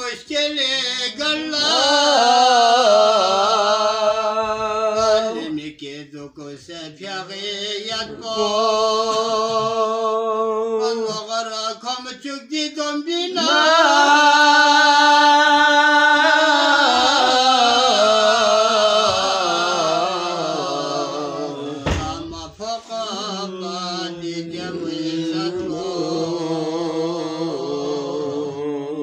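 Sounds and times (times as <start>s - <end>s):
man singing unaccompanied: 0.0s - 29.0s.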